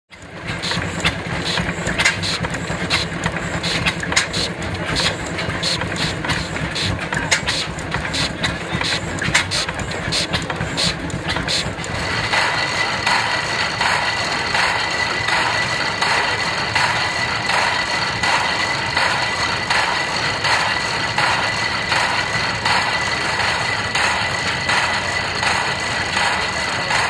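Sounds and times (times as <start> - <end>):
steam engine exhaust beating: 0.1 - 27.0.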